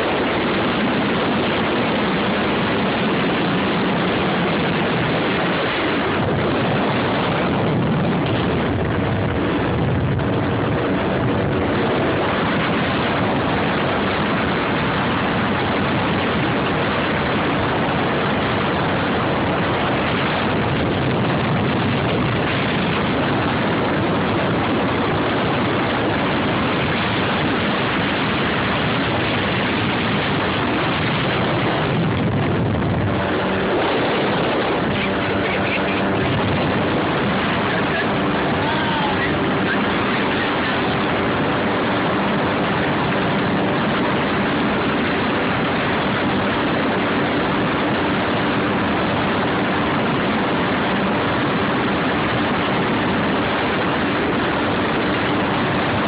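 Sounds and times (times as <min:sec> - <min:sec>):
jet ski engine running: 0:00.0 - 0:56.0
rushing wind and water: 0:00.0 - 0:56.0.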